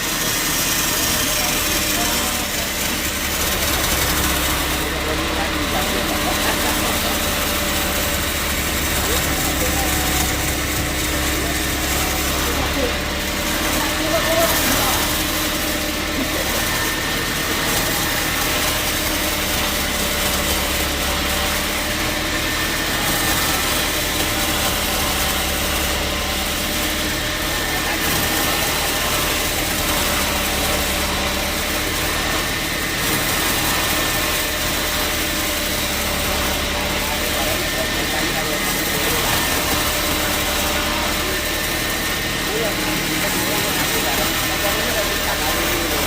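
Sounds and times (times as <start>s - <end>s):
hissing machinery noise: 0.0s - 46.0s
sawmill motor hum: 0.0s - 46.0s.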